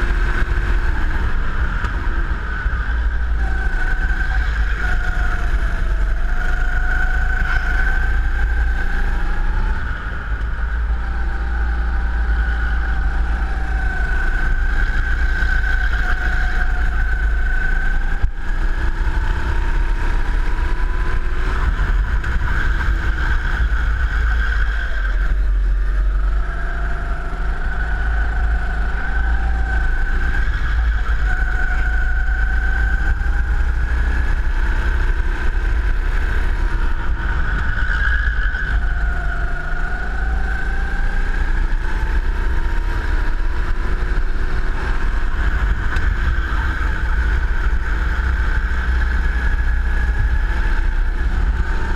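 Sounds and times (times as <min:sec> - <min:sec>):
go-kart engine: 0:00.0 - 0:51.9
wind rumble on microphone: 0:00.0 - 0:51.9.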